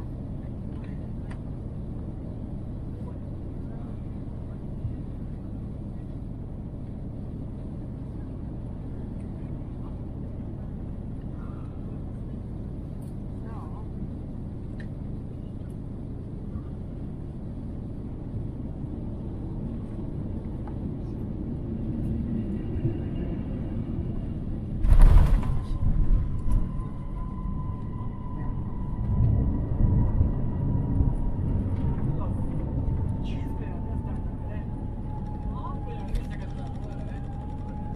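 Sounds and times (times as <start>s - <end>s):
airplane cabin low rumble: 0.0s - 37.9s.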